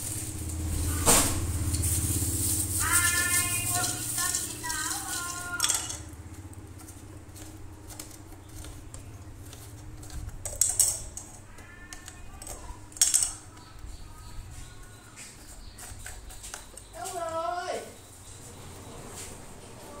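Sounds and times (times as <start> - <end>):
fan parts clicking and clinking: 0.0 - 20.0.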